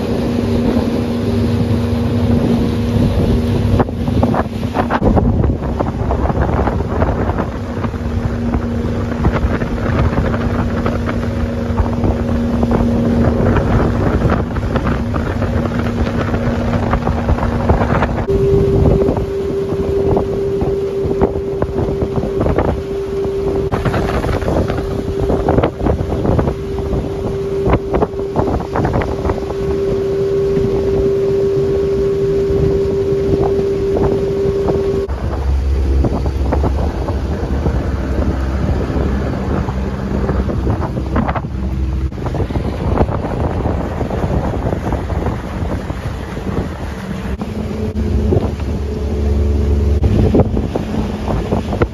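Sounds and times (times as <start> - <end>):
boat motor running: 0.0 - 51.9
water rushing past hull: 0.0 - 51.9
wind buffeting microphone: 0.0 - 51.9.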